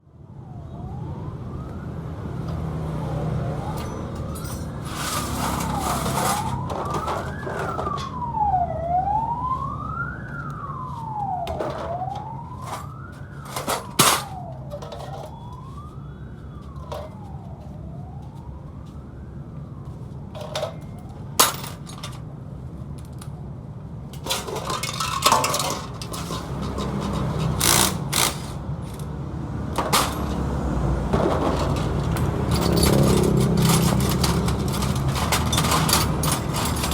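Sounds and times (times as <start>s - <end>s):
siren wailing: 0.2s - 21.6s, 24.2s - 36.9s.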